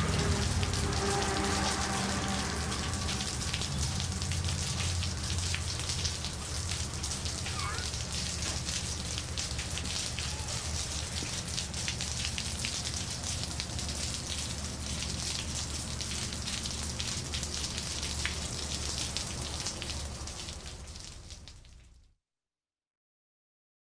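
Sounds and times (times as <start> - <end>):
rain falling on asphalt: 0.0 - 22.2.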